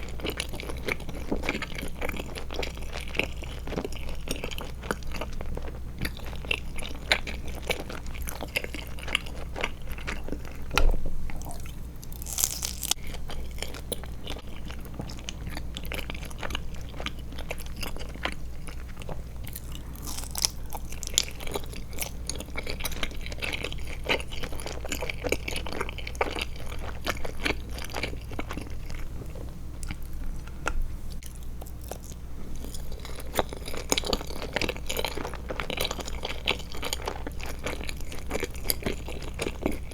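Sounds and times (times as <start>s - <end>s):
chewing gummy candy: 0.0s - 39.9s.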